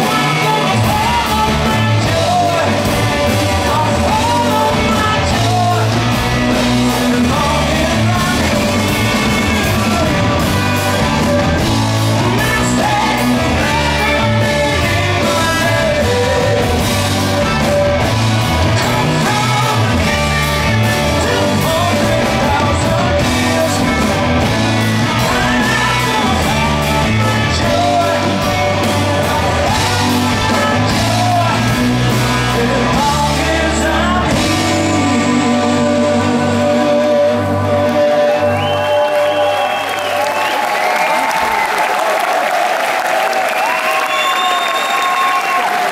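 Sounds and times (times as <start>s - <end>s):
man singing: 0.0s - 10.5s, 11.6s - 39.6s
electric guitar: 0.0s - 39.8s
live rock band playing: 0.0s - 41.6s.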